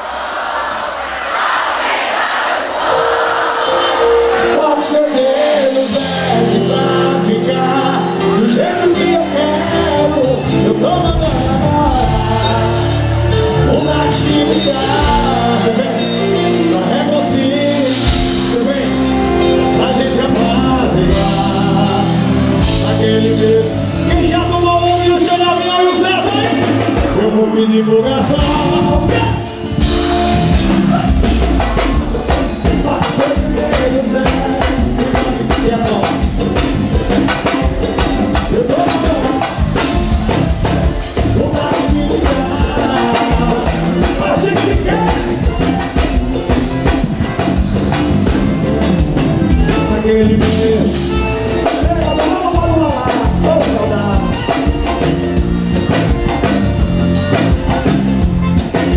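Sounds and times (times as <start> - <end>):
lead vocal singing: 0.0 - 47.3, 48.0 - 55.0
accordion: 0.0 - 58.9
live band playing: 0.9 - 58.9
bass and drums: 5.7 - 58.9.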